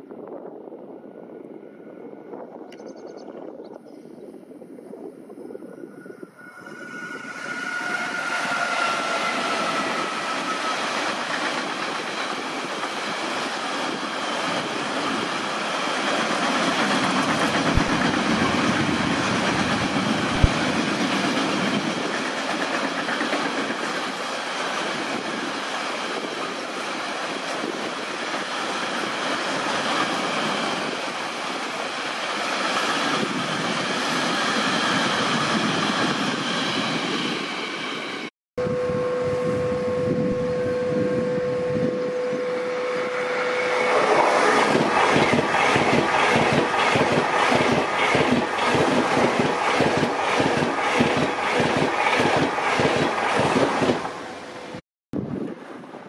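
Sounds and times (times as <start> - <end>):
freight train rolling rumble: 0.0 - 38.3, 39.2 - 56.0
electric locomotive whine: 0.0 - 56.0.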